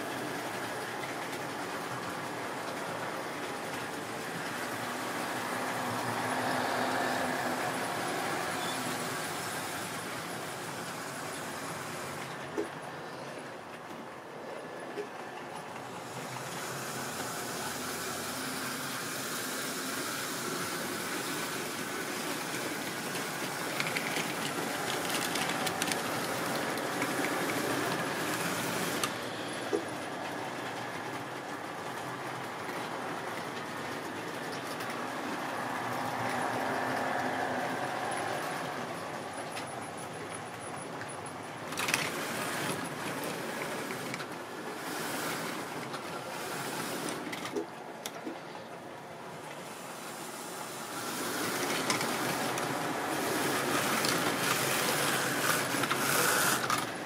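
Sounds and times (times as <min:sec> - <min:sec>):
model train rumbling on track: 0:00.0 - 0:57.0
train rattle: 0:00.0 - 0:57.0
wheels clicking over rail joints: 0:00.0 - 0:57.0.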